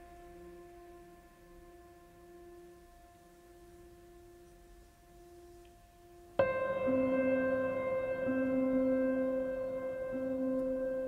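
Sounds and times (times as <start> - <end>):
faint background music tones: 0.0 - 11.0.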